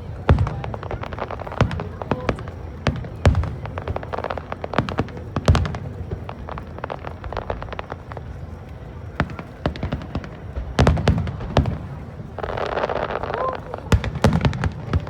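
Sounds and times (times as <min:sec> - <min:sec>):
deep fireworks booms: 0:00.0 - 0:15.0
fireworks popping and crackling: 0:00.0 - 0:15.0.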